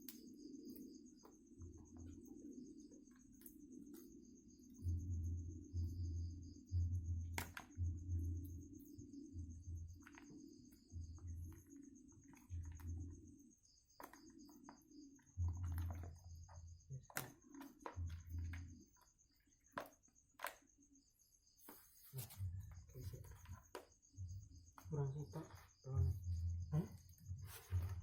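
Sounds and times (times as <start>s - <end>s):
night insects chirping: 0.0s - 28.0s.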